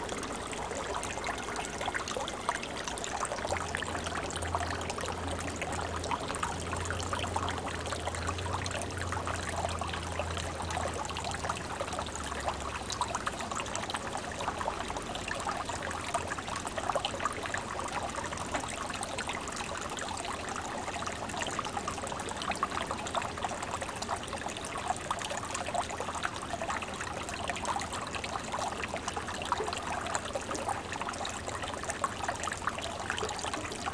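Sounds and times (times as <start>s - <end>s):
water babbling and trickling: 0.0s - 33.9s.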